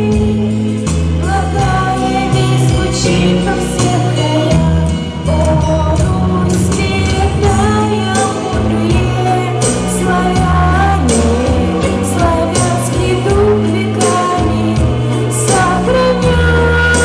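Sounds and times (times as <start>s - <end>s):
instrumental accompaniment with beat: 0.0s - 17.0s
woman singing: 0.0s - 17.0s.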